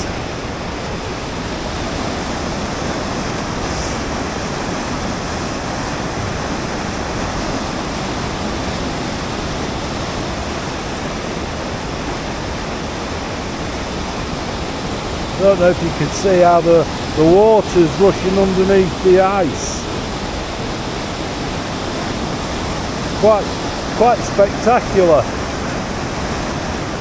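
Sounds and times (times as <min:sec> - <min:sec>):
river rapids rushing under ice: 0:00.0 - 0:27.0.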